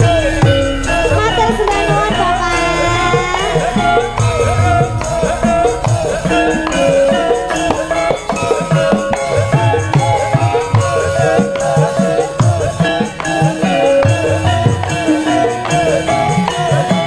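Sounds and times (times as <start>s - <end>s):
steady drum beats: 0.0s - 16.8s
gamelan melody: 0.0s - 17.0s
rattling percussion strikes: 0.0s - 17.0s.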